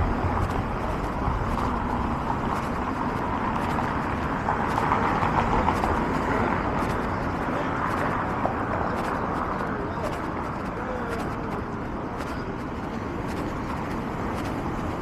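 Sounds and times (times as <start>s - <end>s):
cars running on road: 0.0s - 15.0s.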